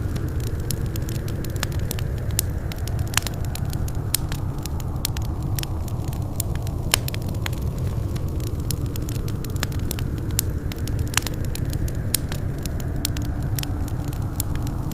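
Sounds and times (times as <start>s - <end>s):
low rumble of flames: 0.0s - 14.9s
wood fire crackling: 0.0s - 14.9s.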